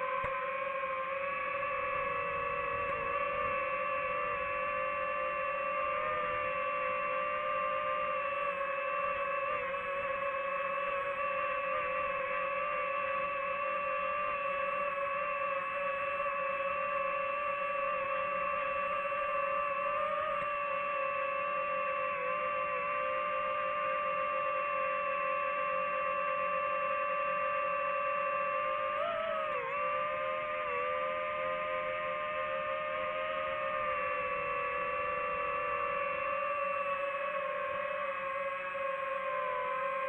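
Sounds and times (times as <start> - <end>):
drone propellers whining: 0.0 - 40.0.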